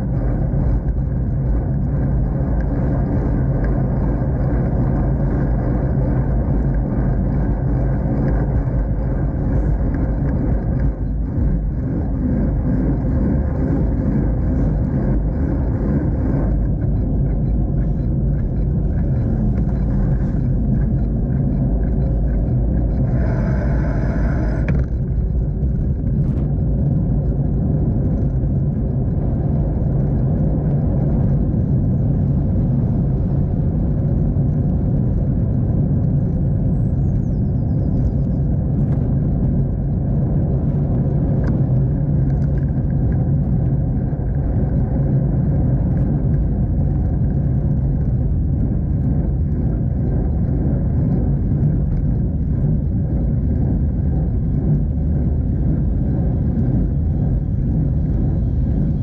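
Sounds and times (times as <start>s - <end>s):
tyre-on-road noise: 0.0s - 59.0s
wind buffeting: 0.0s - 59.0s.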